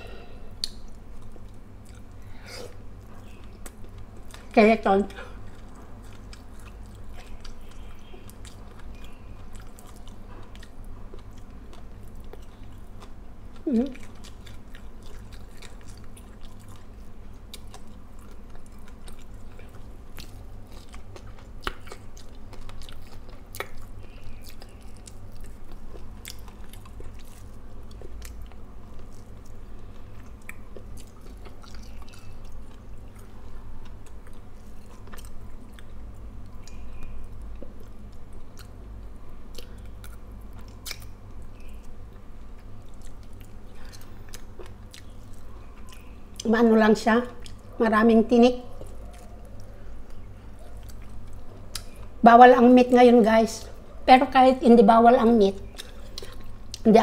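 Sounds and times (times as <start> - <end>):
person chewing food: 0.0 - 4.5, 5.3 - 46.5, 47.4 - 47.8, 48.7 - 52.2, 55.6 - 56.9
steady low hum: 0.0 - 57.0.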